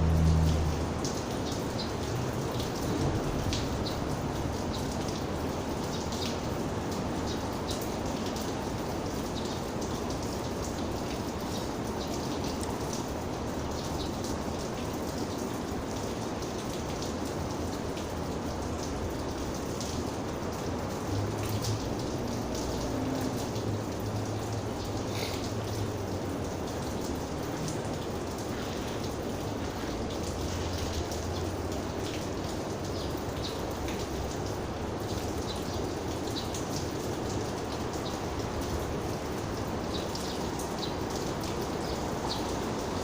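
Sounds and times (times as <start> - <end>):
raindrops ticking: 0.0 - 43.0
steady rain falling: 0.0 - 43.0.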